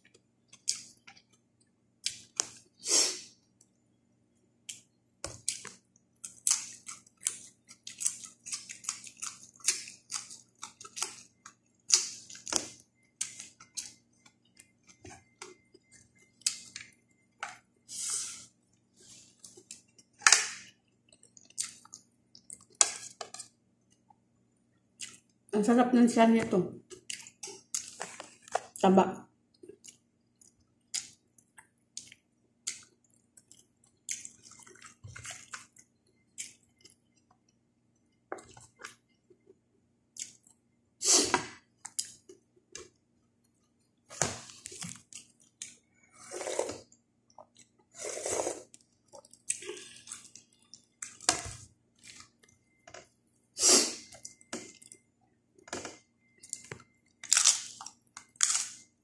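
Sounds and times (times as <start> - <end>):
person chewing raw vegetables: 0.0 - 2.8, 4.6 - 17.3, 18.7 - 24.2, 24.9 - 25.4, 26.8 - 28.8, 29.5 - 40.7, 41.6 - 43.8, 44.4 - 58.9.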